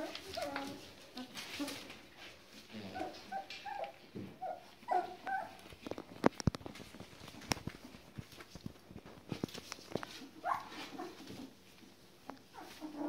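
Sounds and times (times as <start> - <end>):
puppies whimpering and squeaking: 0.0 - 8.2, 9.3 - 11.7, 12.3 - 13.0.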